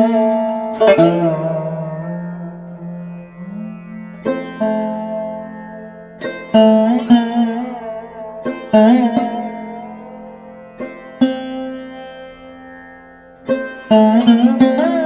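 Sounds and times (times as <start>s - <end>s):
sitar-like plucked strings: 0.0s - 15.0s.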